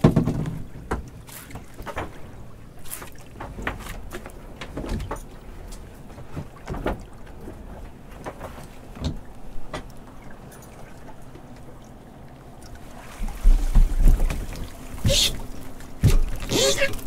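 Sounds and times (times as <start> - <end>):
low steady hum: 0.0 - 17.0
water splashing: 0.0 - 17.0.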